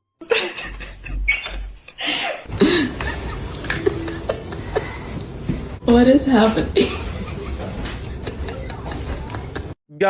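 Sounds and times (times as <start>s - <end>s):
person laughing: 0.2s - 5.4s, 6.7s - 9.8s.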